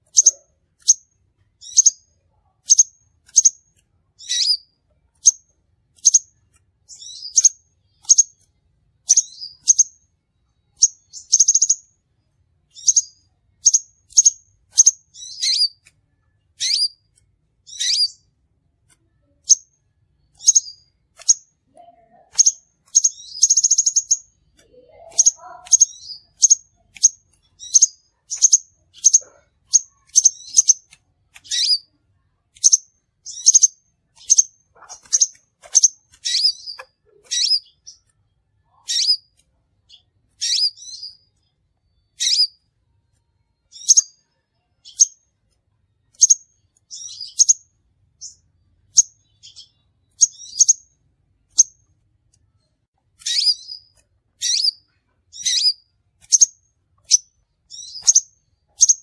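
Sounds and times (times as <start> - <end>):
bird high-pitched chips: 0.0 - 2.0, 2.6 - 9.9, 10.8 - 11.9, 12.7 - 18.3, 18.9 - 41.5, 42.1 - 42.6, 43.6 - 44.2, 46.1 - 50.9, 53.1 - 59.0.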